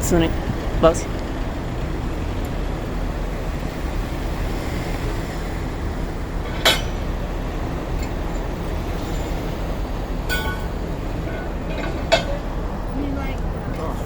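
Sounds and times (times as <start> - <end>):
heavy truck rumbling: 0.0 - 14.0.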